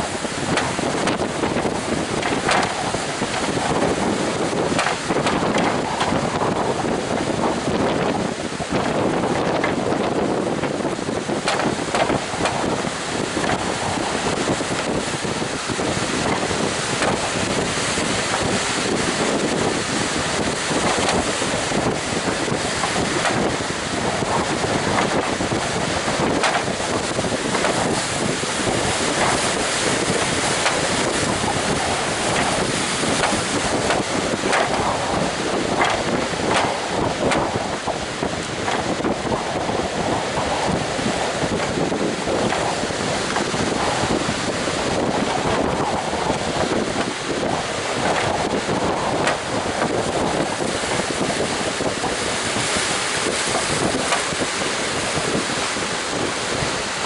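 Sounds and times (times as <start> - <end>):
crashing surf: 0.0 - 57.0
wind buffeting microphone: 0.0 - 57.0.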